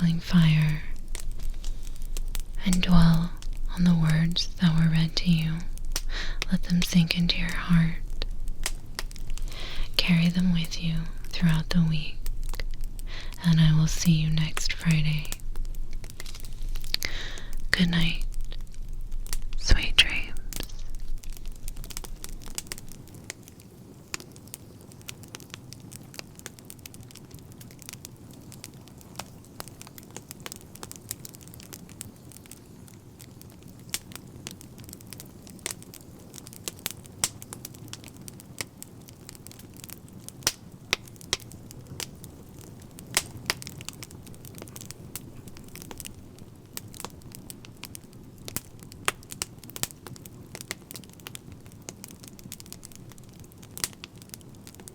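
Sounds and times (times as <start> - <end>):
burning wood popping and snapping: 0.0 - 54.9
low rumble of flame: 0.0 - 54.9.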